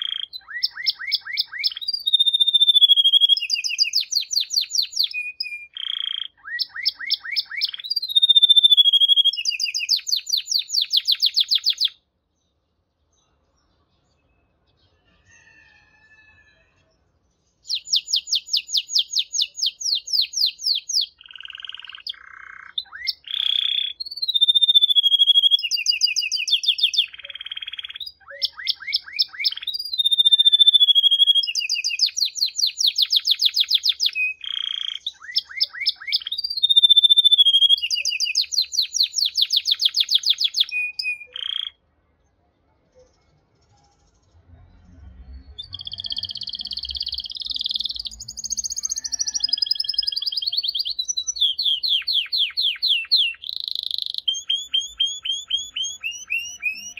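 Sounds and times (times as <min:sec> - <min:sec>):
canary singing trills: 0:00.0 - 0:12.0, 0:17.5 - 0:41.8, 0:45.2 - 0:56.9.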